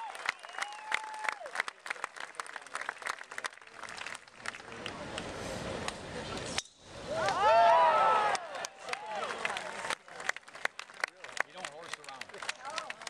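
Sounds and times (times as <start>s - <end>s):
crowd applauding: 0.0s - 5.3s, 7.2s - 13.0s
quiet crowd background noise: 0.4s - 13.0s.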